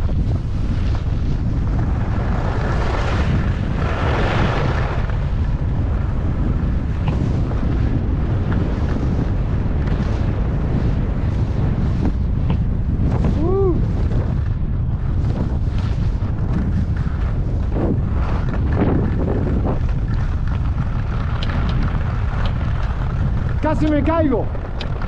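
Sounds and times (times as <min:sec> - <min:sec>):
skis scraping on packed snow: 0:00.0 - 0:25.0
wind rumbling on microphone: 0:00.0 - 0:25.0.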